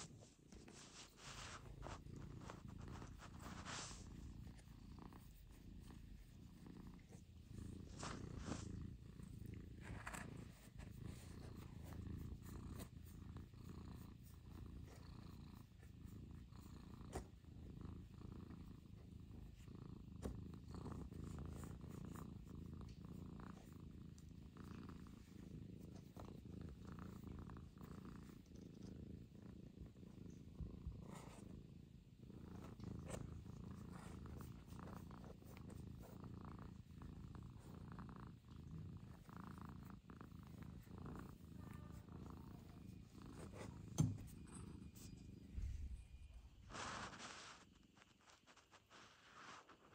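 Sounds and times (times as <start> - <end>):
cat purring: 0.0 - 49.9
soft rustles: 0.0 - 49.9.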